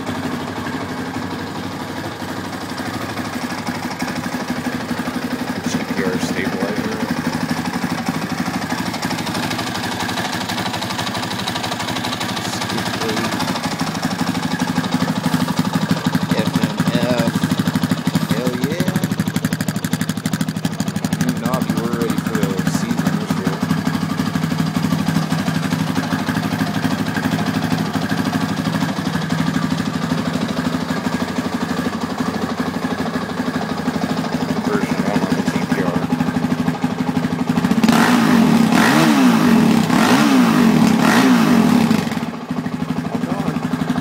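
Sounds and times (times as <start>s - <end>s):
dirt bike engine idling and revving: 0.0s - 44.0s.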